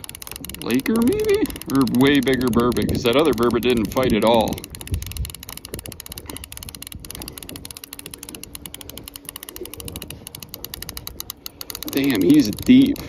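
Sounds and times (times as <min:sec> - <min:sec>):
fishing reel clicking: 0:00.0 - 0:13.0.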